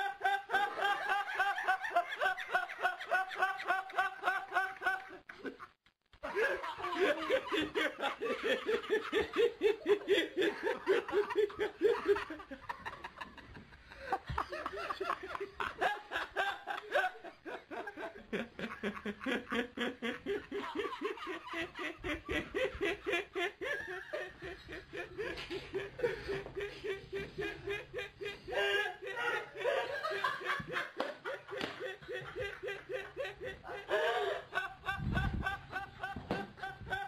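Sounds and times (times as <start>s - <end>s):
person laughing: 6.2s - 37.0s.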